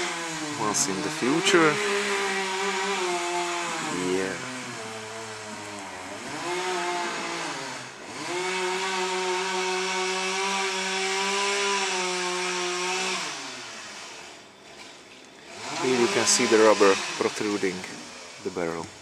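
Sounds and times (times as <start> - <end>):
chainsaw engine revving: 0.0 - 14.4, 15.4 - 19.0.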